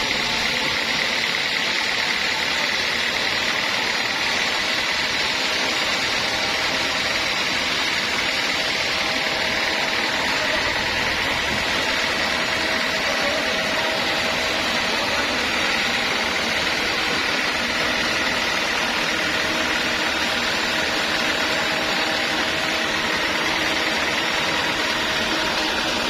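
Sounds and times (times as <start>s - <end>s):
band sawmill running: 0.0s - 26.0s.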